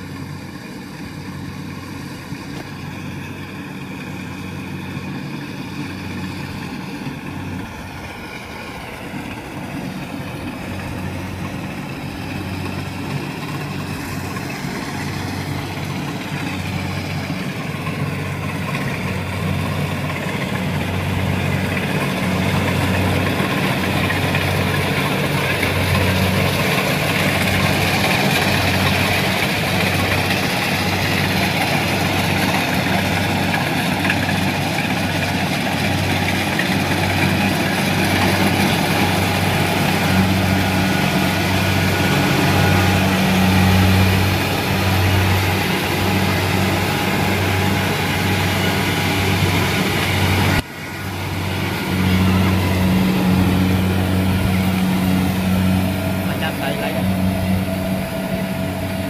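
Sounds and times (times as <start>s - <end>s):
diesel engine hum: 0.0s - 59.0s
machinery clatter: 0.0s - 59.0s.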